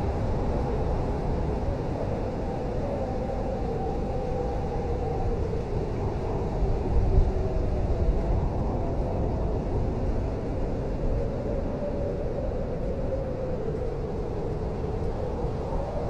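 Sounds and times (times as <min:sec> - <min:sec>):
blizzard wind howling: 0:00.0 - 0:16.0.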